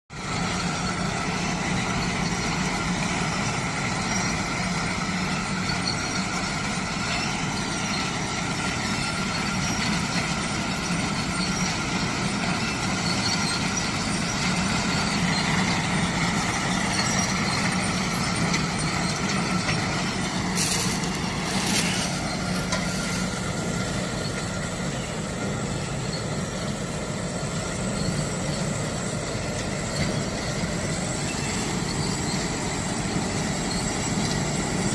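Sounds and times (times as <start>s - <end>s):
harvesting machine droning: 0.1s - 34.9s.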